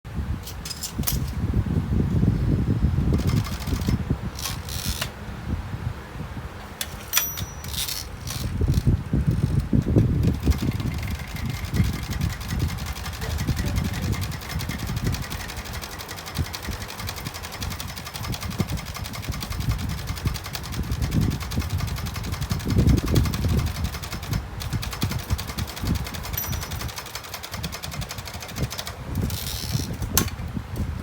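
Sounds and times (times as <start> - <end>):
manual typewriter key strikes: 3.2 - 5.1, 6.6 - 30.4.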